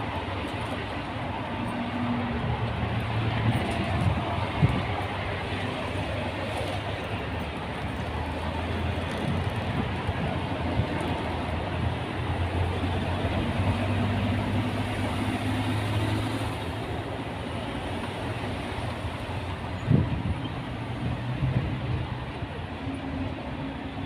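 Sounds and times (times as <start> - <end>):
vehicle road and engine noise: 0.0 - 24.0.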